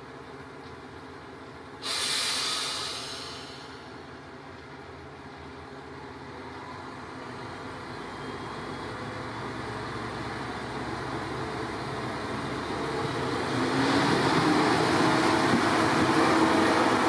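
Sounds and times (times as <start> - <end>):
diesel railcar rumbling: 0.0 - 17.0.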